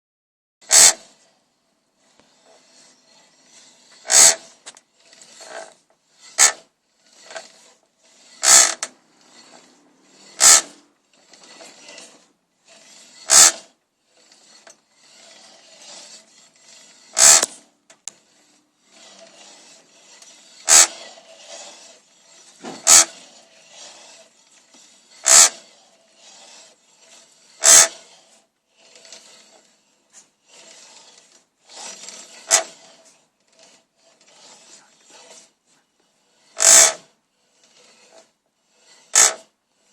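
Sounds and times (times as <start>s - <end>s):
steady rubbing: 0.6s - 39.9s
chain creaking: 2.0s - 39.9s.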